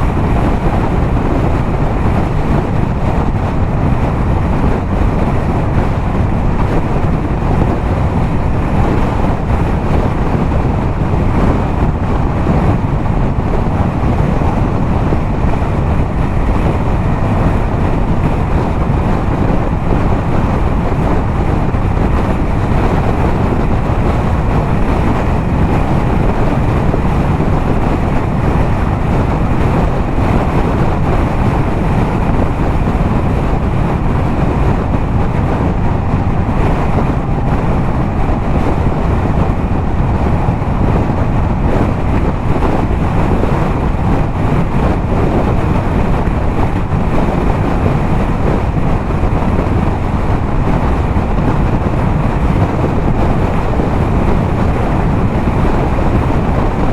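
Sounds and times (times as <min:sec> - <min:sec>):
motorcycle engine cruising: 0:00.0 - 0:56.9
wind rush on microphone: 0:00.0 - 0:56.9.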